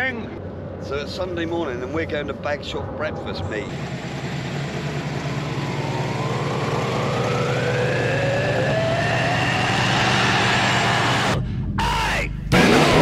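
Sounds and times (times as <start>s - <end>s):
car engine revving: 0.0s - 11.4s, 12.5s - 13.0s.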